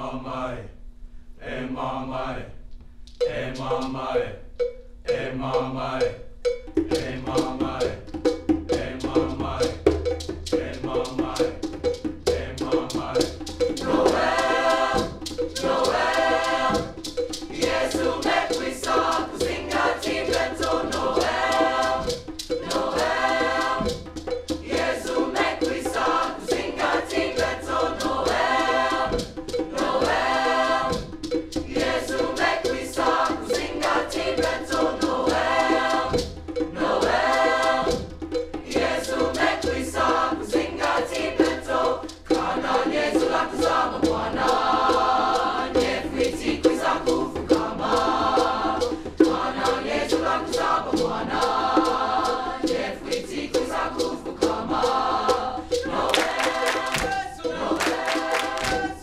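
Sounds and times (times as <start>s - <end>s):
choir singing: 0.0s - 0.8s, 1.4s - 2.6s, 3.2s - 6.3s, 6.9s - 59.0s.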